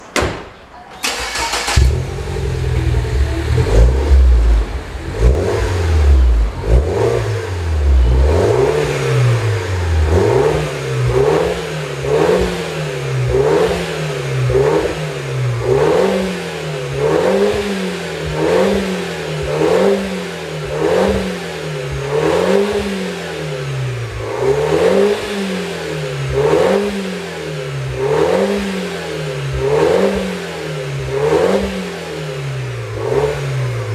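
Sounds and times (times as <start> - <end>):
car engine revving: 1.0 - 33.9.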